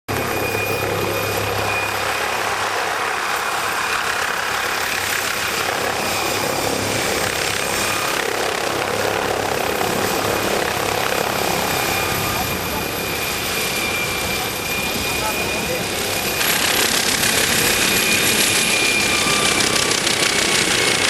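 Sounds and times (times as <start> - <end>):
helicopter engine and rotor: 0.1 - 21.0.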